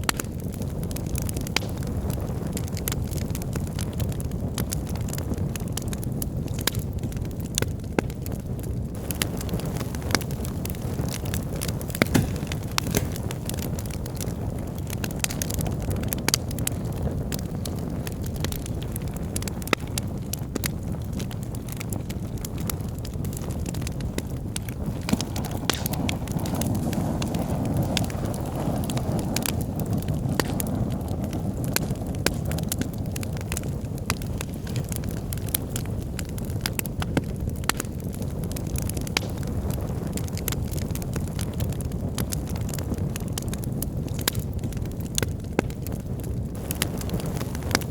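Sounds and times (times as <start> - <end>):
fire rumbling: 0.0 - 47.9
wood crackling and popping: 0.0 - 47.9.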